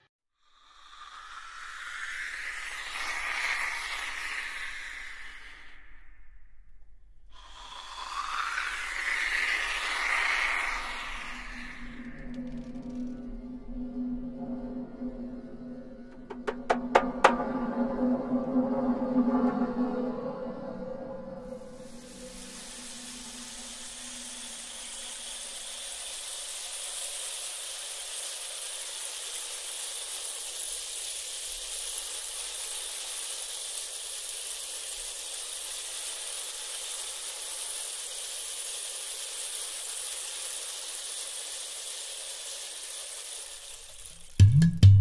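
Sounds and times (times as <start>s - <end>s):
steady high-pitched hiss: 0.0s - 44.5s.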